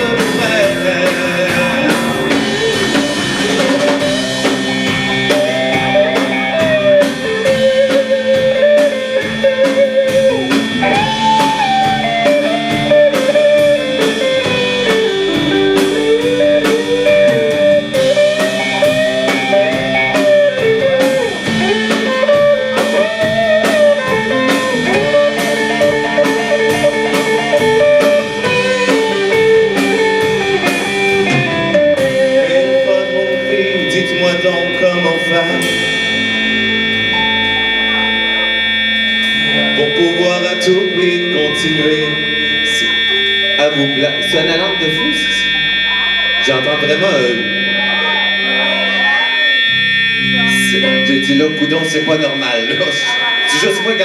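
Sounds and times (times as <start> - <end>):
high-pitched fire alarm tone: 0.0 - 54.0
lead guitar melody: 0.0 - 54.0
rock-blues band playing: 0.0 - 54.0.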